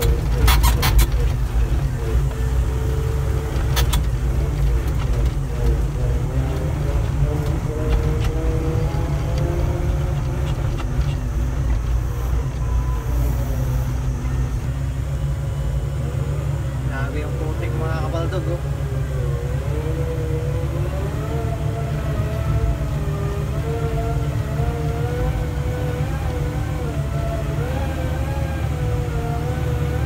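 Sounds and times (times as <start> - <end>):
excavator diesel engine rumbling: 0.0 - 30.0.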